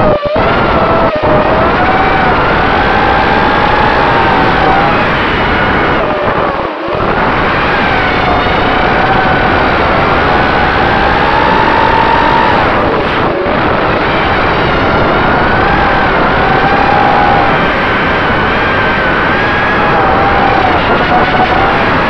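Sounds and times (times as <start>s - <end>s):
drone motors whining: 0.0s - 22.0s
wind rush: 0.0s - 22.0s.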